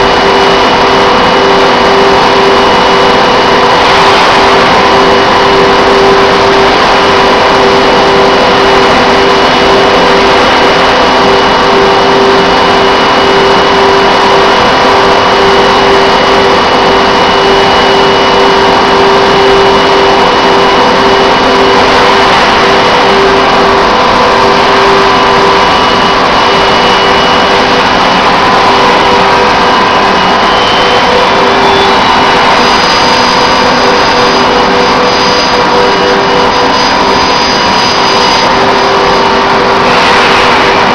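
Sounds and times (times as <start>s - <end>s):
faint high whines: 0.0s - 40.9s
loud machine drone: 0.0s - 40.9s.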